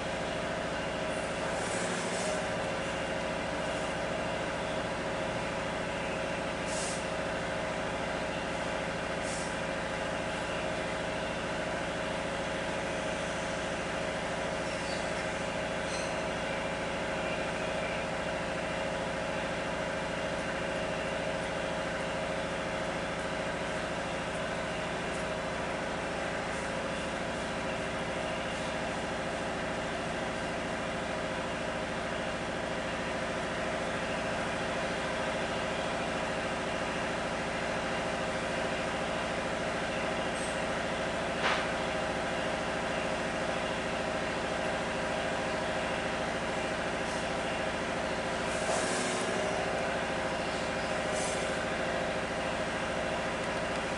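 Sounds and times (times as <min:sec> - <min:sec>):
steady mechanical hum: 0:00.0 - 0:53.9.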